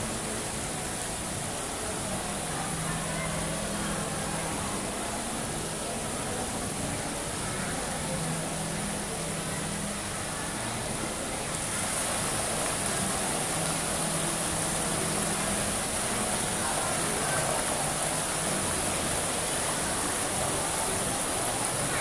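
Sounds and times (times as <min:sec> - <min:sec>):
fountain jets splashing: 0:00.0 - 0:22.0.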